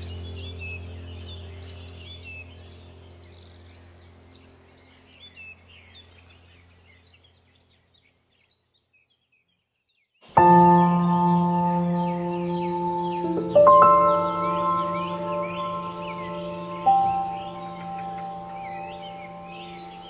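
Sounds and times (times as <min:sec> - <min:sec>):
low steady drone: 0:00.0 - 0:07.4, 0:10.4 - 0:20.0
bird chirps: 0:00.0 - 0:20.0.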